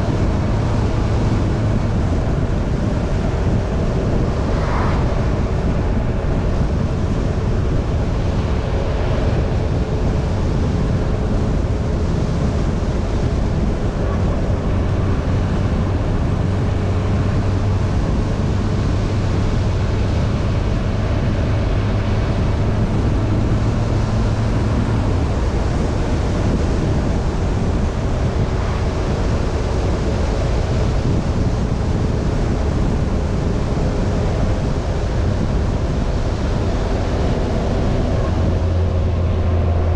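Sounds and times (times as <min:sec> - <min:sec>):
motorcycle engine hum: 0:00.0 - 0:39.9
wind rushing on microphone: 0:00.0 - 0:39.9.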